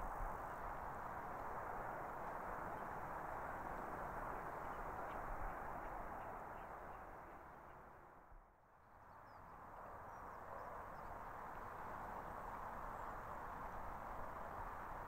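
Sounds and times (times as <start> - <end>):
faint outdoor ambient hiss: 0.0 - 15.0.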